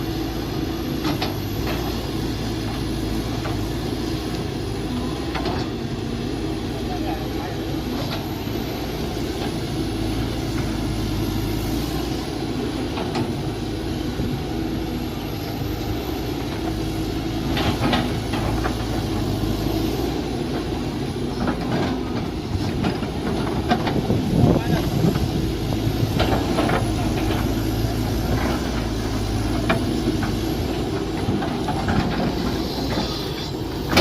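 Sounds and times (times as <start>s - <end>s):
mini excavator engine running: 0.0s - 34.0s.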